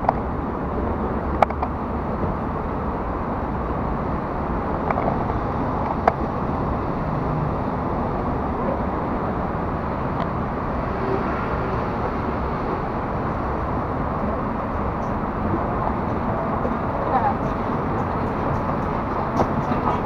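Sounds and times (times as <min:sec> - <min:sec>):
escalator mechanical rumble: 0:00.0 - 0:20.0.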